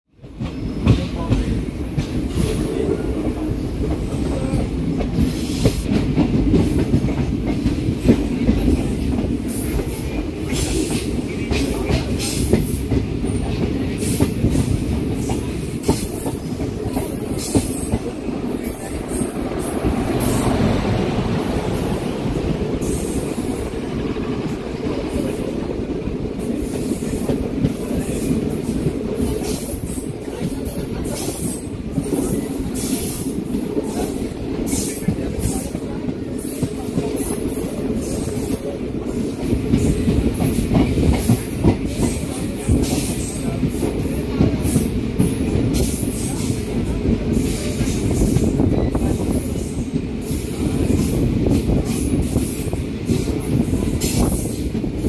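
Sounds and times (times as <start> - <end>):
train wheels rumbling on rail: 0.1 - 55.0.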